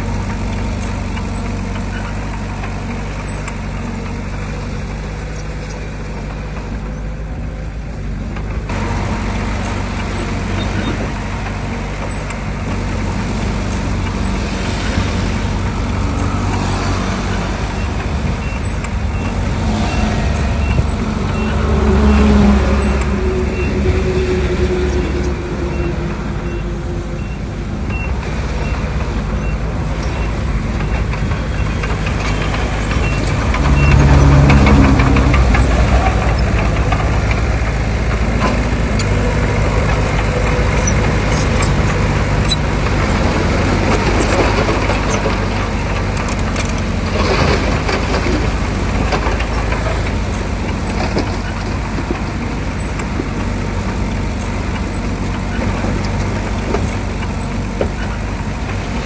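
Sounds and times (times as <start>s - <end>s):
heavy machinery diesel engine: 0.0s - 59.0s
metal clanks and rattles: 0.0s - 59.0s.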